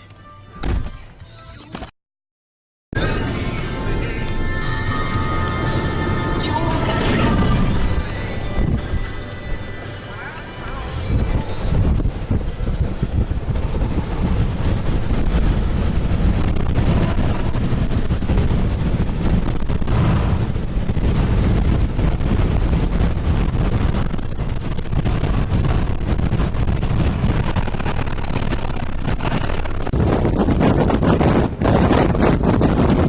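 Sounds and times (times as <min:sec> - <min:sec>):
wind buffeting microphone: 0:03.1 - 0:33.0.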